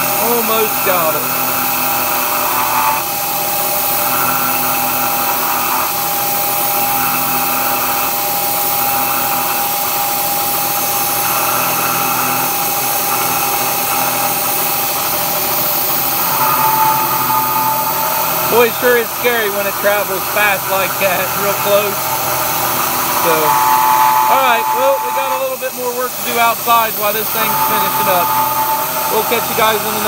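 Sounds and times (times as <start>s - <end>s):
milling machine high tone: 0.0s - 9.7s, 10.4s - 30.0s
harsh metal cutting noise: 0.0s - 30.0s.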